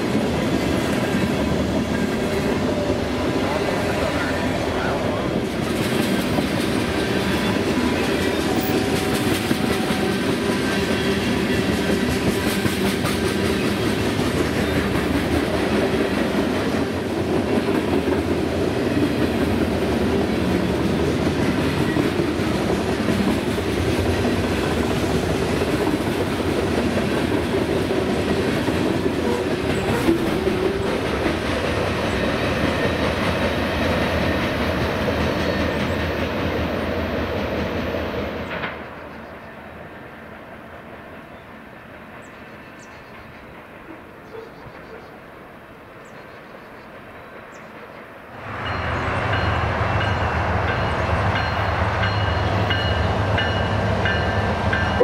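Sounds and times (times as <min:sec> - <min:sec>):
train wheels clattering on rails: 0:00.0 - 0:39.4, 0:46.1 - 0:55.0.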